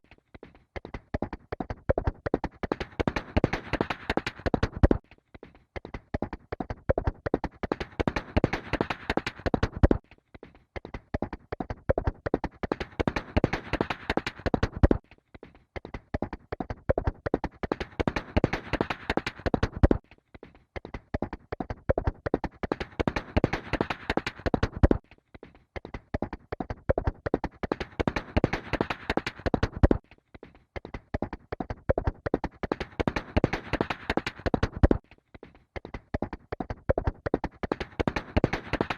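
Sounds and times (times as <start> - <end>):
horse hooves galloping: 0.0 - 5.0, 5.8 - 10.0, 10.8 - 15.0, 15.8 - 20.0, 20.8 - 25.0, 25.8 - 30.0, 30.8 - 35.0, 35.8 - 38.9.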